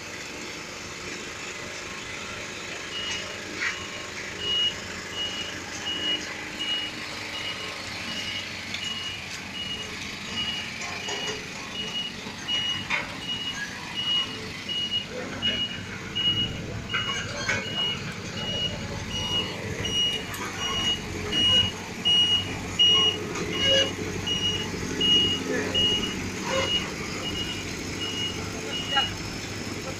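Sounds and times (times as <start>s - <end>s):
vehicle engine running: 0.0s - 29.9s
reversing alarm beeping: 2.8s - 29.9s.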